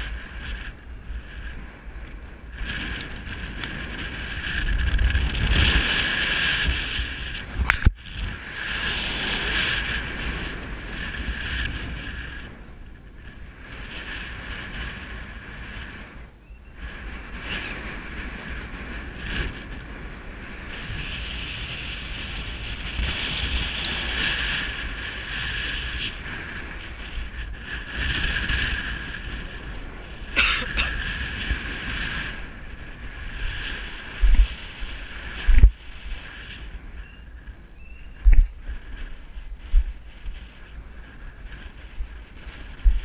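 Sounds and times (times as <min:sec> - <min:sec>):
low buffeting thumps from gusts: 0:00.0 - 0:43.0
wind rushing over microphone: 0:00.0 - 0:43.0.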